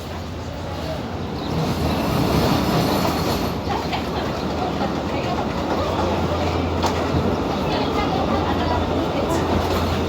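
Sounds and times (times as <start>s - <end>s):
train wheels rumbling on rails: 0.0s - 10.0s
train wheel clacks: 1.5s - 10.0s.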